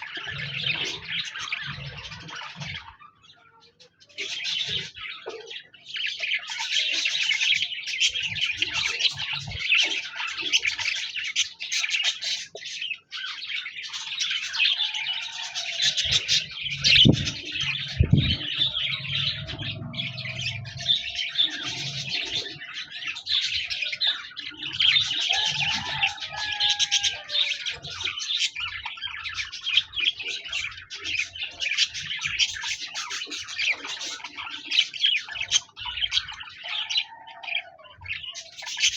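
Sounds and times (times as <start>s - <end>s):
budgies chirping and warbling: 0.0s - 38.9s.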